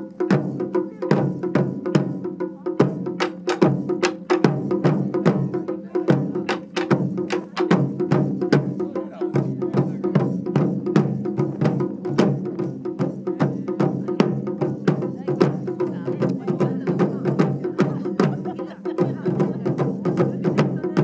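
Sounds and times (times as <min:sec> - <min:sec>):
taiko drums fast rhythm: 0:00.0 - 0:21.0.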